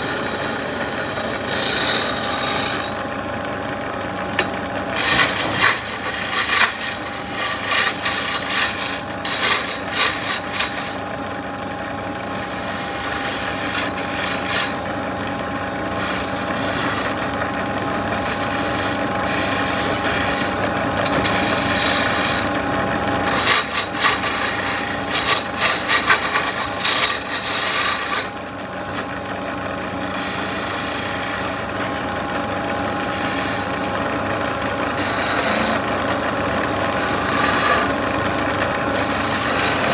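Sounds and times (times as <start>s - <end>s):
rasping wood cutting: 0.0s - 39.9s.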